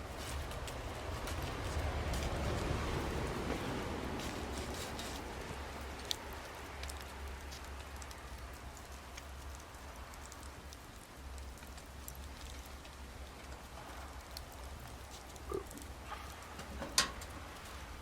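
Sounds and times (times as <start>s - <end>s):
fire popping: 0.0s - 18.0s
low fire rumble: 0.0s - 18.0s
wood fire crackling: 0.0s - 18.0s.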